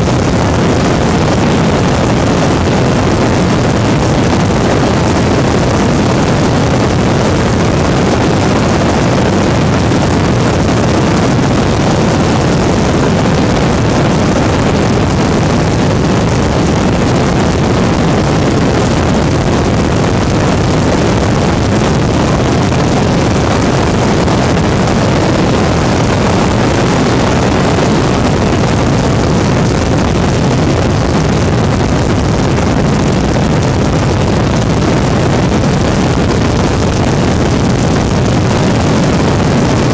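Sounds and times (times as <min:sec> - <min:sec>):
two-stroke aircraft engine running: 0:00.0 - 0:39.9
wind rushing over microphone: 0:00.0 - 0:39.9.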